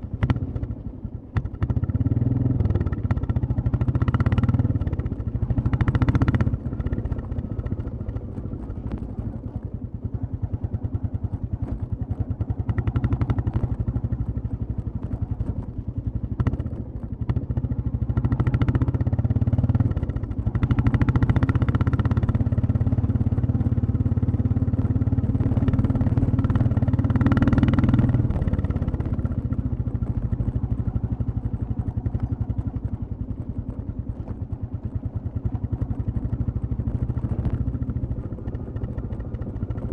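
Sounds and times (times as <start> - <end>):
motorcycle engine revving while riding: 0.0 - 39.9.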